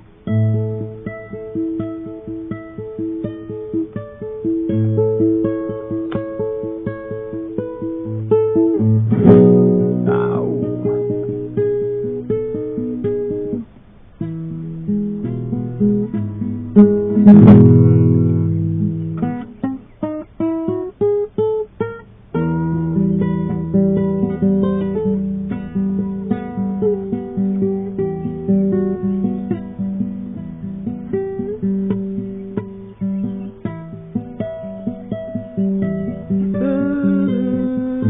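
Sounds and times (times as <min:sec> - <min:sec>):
acoustic guitar: 0:00.0 - 0:38.0.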